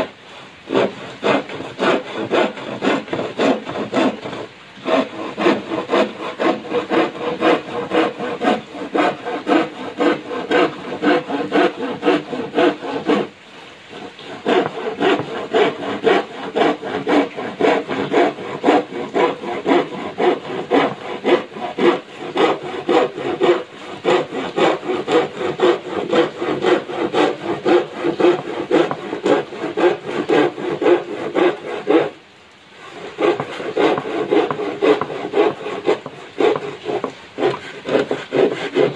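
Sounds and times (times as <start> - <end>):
handsaw cutting wood: 0.0 - 32.2, 32.8 - 38.9.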